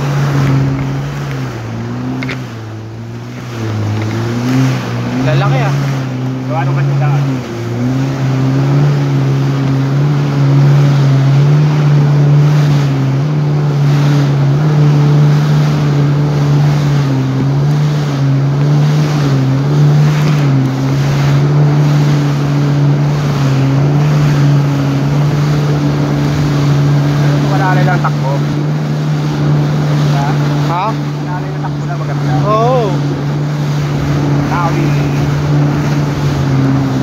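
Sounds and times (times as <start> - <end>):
jet ski engine running: 0.0 - 37.0.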